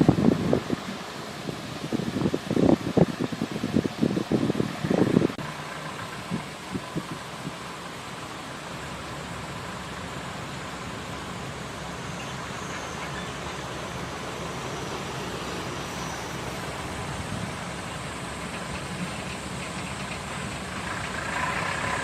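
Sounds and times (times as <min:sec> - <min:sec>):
low engine hum: 0:00.0 - 0:22.0
round baler machine noise: 0:00.0 - 0:22.0.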